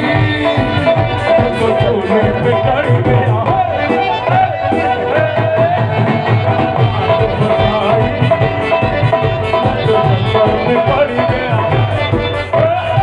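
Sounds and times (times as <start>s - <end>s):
loud music with drum beat: 0.0s - 13.0s.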